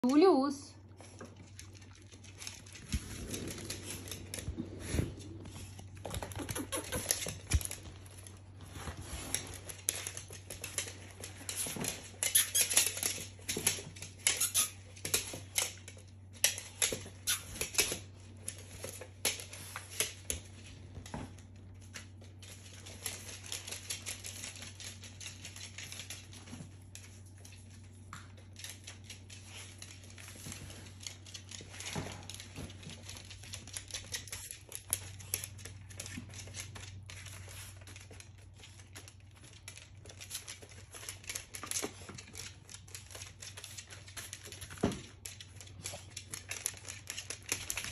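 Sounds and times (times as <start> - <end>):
puppy clicks taps and rustles: 0.0 - 47.9.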